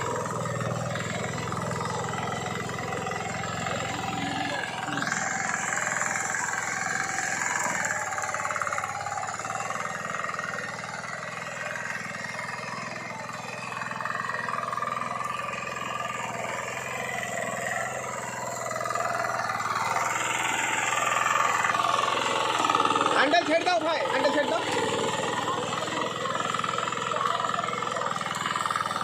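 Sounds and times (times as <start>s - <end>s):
small tractor engine running: 0.0s - 29.0s.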